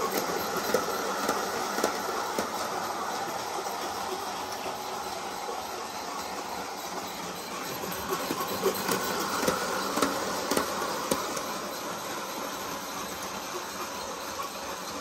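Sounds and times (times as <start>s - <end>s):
wheels clicking over rail joints: 0.0s - 15.0s.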